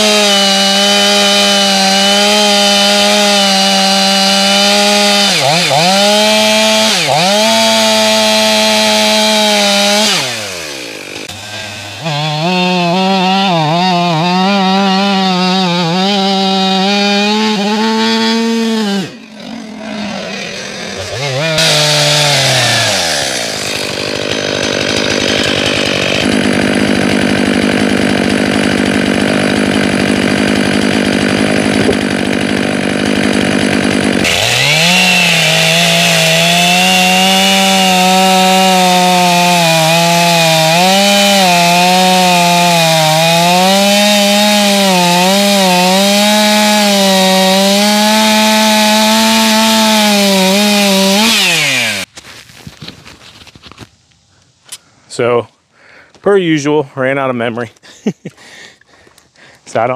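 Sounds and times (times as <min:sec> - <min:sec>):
chainsaw cutting log: 0:00.0 - 0:53.9.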